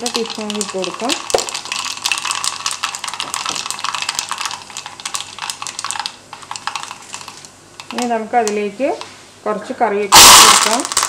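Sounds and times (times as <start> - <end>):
mustard seeds popping in oil: 0.0 - 9.1, 10.1 - 11.0
oil frying sizzle: 0.0 - 9.2, 10.1 - 11.0.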